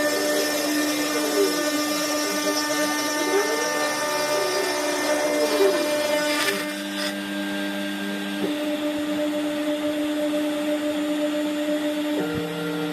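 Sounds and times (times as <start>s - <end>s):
router spindle whine: 0.0s - 12.9s
stepper motor tones: 0.0s - 12.9s.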